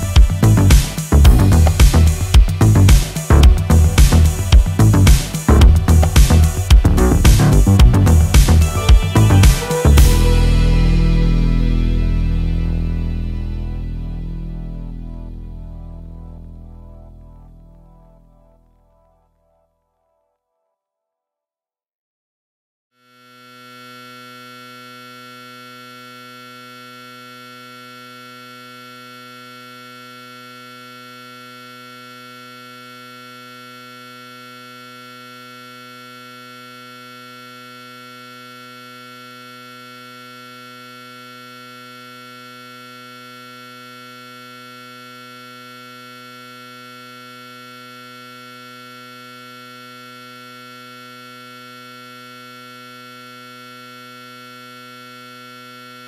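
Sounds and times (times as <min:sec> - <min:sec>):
electronic drone: 0:00.0 - 0:19.2, 0:23.3 - 0:56.0.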